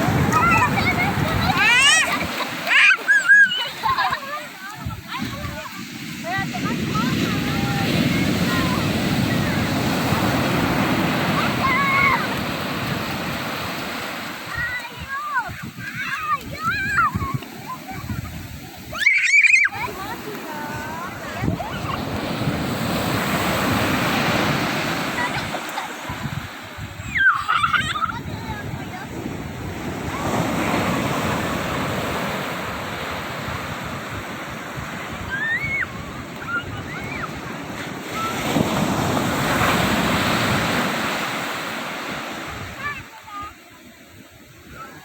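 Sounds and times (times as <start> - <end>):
wave breaking on beach: 0.0 - 45.0.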